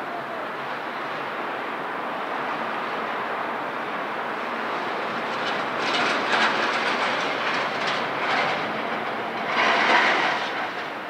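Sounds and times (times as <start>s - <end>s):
rushing clattering city noise: 0.0s - 11.0s.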